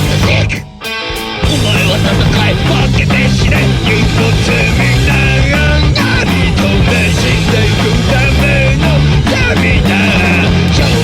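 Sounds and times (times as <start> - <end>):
punk rock band playing: 0.0 - 11.0.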